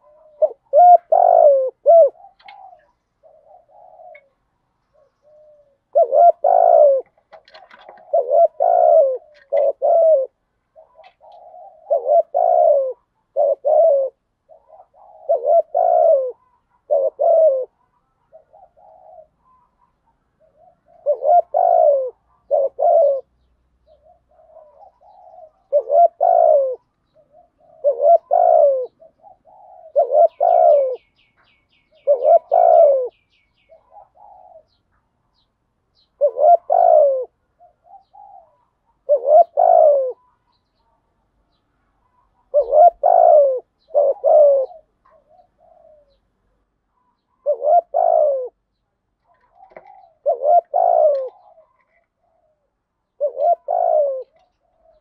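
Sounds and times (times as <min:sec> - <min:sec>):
dove cooing: 0:00.0 - 0:35.0, 0:35.9 - 0:55.0.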